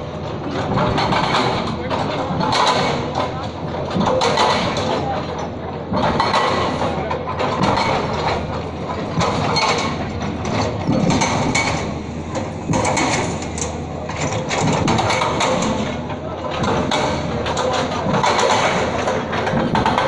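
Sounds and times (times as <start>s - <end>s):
crowd chatter: 0.0s - 20.0s
hydraulic breaker hammering concrete: 0.0s - 20.0s.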